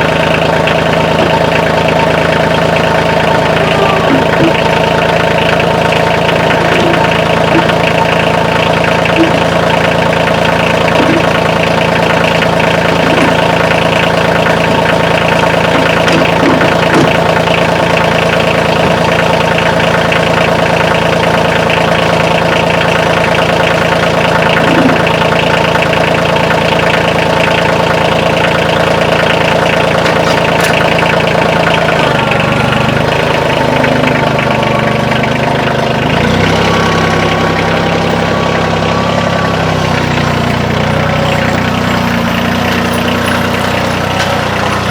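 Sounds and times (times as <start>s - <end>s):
diesel tractor engine idling: 0.0s - 44.9s.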